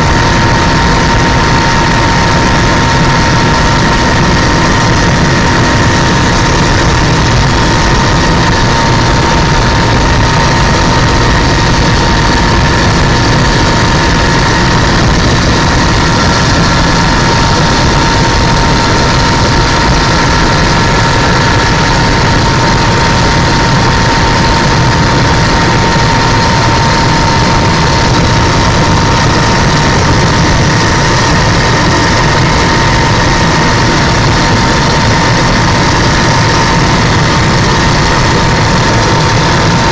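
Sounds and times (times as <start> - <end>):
helicopter engine and rotor noise: 0.0 - 39.9
high-pitched whine: 0.0 - 39.9.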